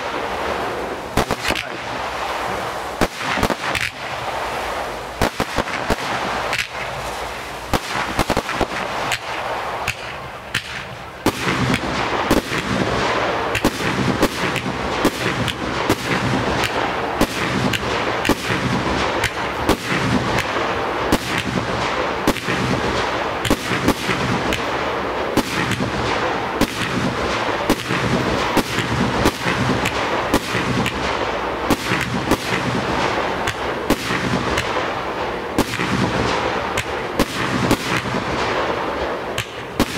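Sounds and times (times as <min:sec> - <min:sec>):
fireworks bangs: 0:00.0 - 0:39.9
steady hiss: 0:00.0 - 0:39.9.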